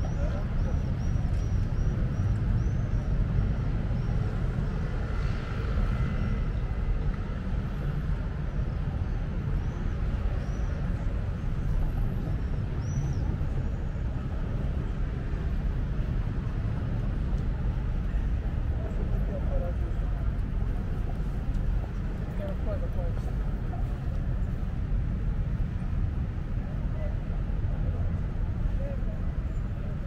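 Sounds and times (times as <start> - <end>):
low rumble of traffic: 0.0 - 30.0.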